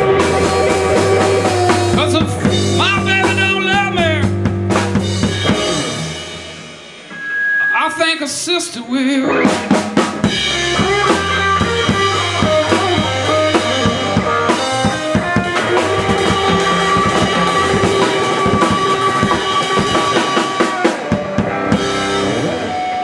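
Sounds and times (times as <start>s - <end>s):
drum kit beat: 0.0s - 8.7s, 9.3s - 23.0s
electric guitar line: 0.0s - 23.0s.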